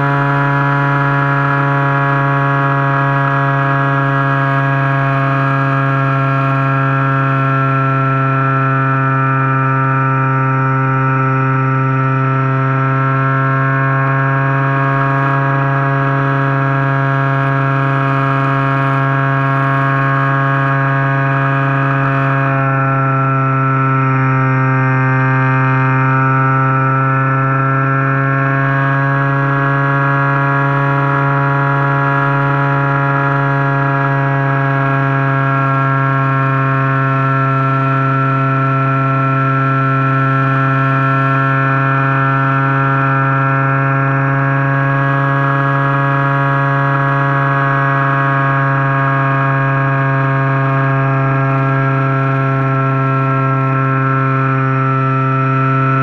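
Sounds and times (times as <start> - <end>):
model plane motor buzzing: 0.0 - 56.0.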